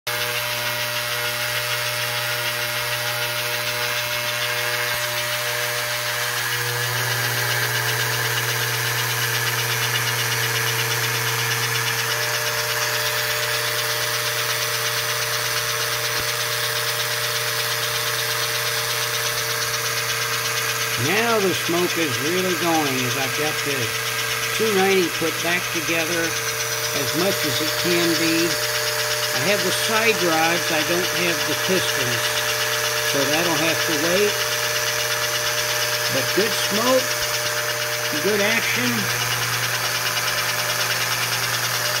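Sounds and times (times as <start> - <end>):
toy train motor whine: 0.1 - 42.0
electrical hum: 1.8 - 42.0.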